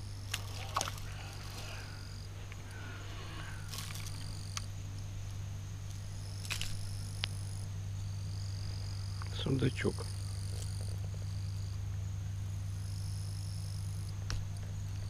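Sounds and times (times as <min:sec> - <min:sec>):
constant low hum: 0:00.0 - 0:15.0
crickets trilling: 0:00.0 - 0:15.0.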